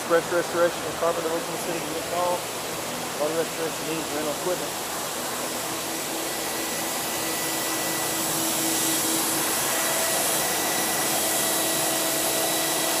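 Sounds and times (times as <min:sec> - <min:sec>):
blower fans rushing air: 0:00.0 - 0:13.0.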